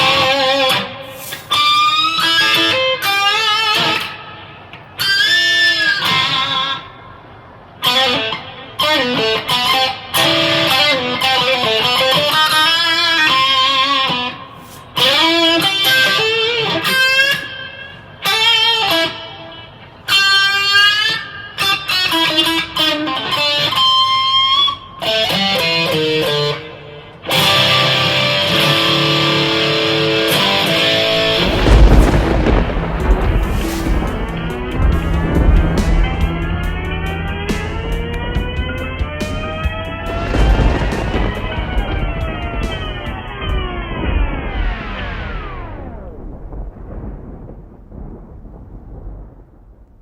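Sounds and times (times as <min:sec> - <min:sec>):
distorted electric guitar: 0:00.0 - 0:04.3, 0:07.8 - 0:47.0.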